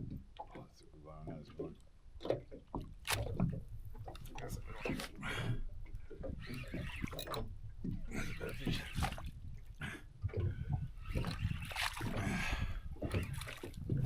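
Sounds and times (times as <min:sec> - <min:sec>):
water slapping boat hull: 0:00.0 - 0:14.0.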